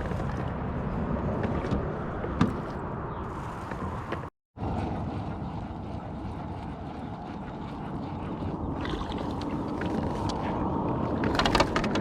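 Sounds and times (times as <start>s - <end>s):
water around a kayak: 0.0s - 12.0s
wind: 0.0s - 12.0s.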